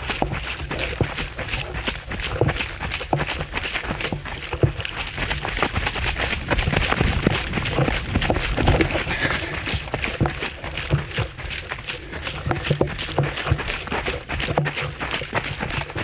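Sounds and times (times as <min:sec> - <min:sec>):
running footsteps on dirt trail: 0:00.0 - 0:16.0.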